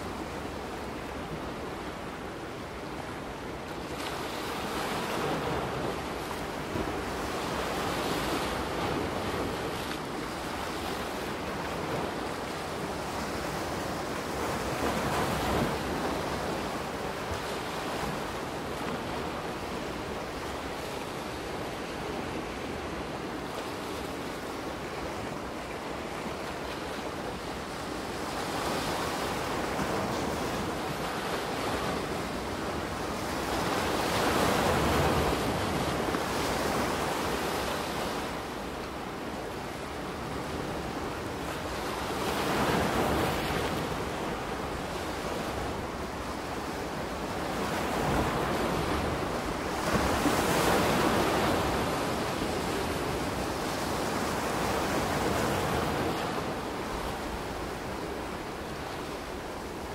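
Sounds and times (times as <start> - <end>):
ocean waves washing onto beach: 0.0 - 59.9.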